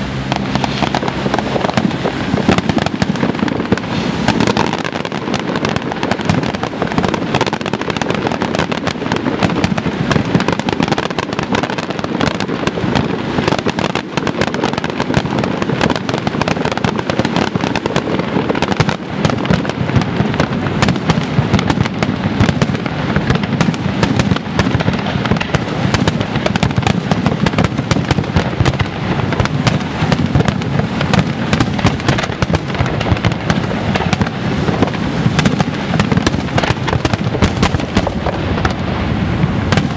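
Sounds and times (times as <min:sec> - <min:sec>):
firework shells bursting: 0:00.2 - 0:38.9, 0:39.6 - 0:39.9.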